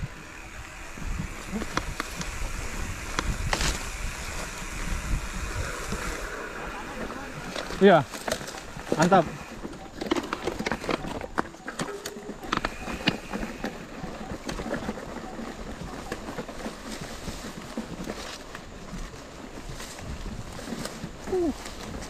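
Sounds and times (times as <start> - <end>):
bike clicks and rattles: 0.0 - 22.0
steady rustling: 0.0 - 22.0.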